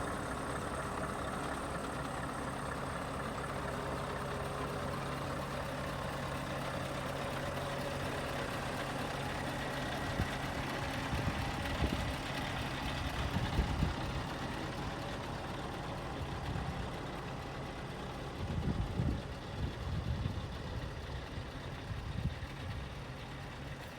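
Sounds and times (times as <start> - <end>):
diesel truck engine idling: 0.0 - 23.9.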